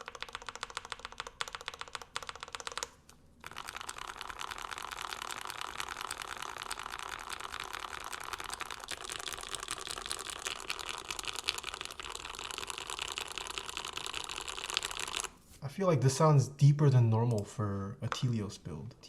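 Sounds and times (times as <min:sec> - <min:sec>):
mechanical keyboard typing: 0:00.0 - 0:15.3.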